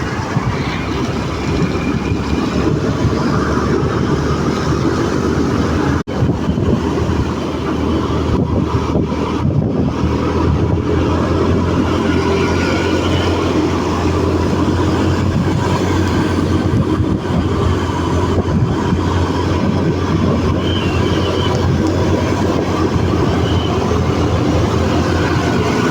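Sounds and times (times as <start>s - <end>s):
low rumble: 0.0s - 25.9s.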